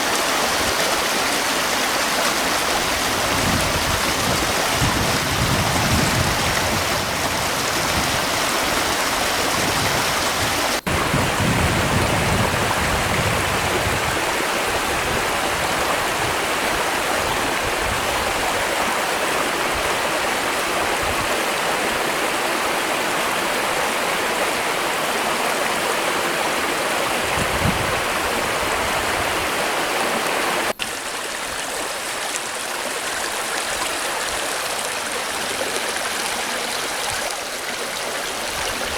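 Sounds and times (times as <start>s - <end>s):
river water rushing: 0.0s - 11.5s, 12.5s - 38.9s.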